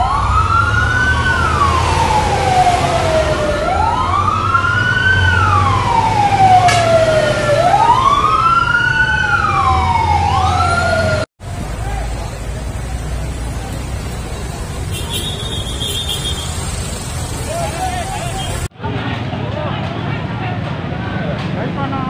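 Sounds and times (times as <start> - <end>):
fire truck sirens wailing: 0.0 - 21.4
street noise: 0.0 - 22.0.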